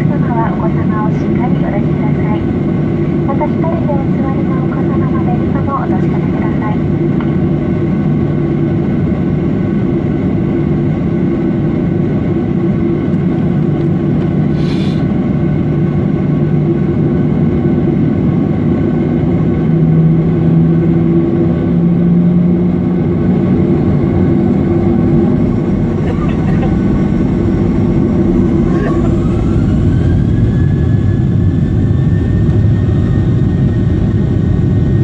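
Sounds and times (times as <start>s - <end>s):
jet engines idling in cabin: 0.0s - 35.0s.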